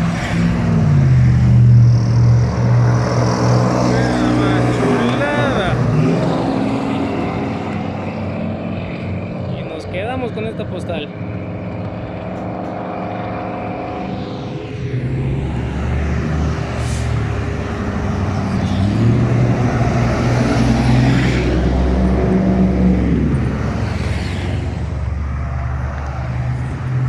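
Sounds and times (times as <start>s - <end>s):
trucks driving past: 0.0s - 27.0s.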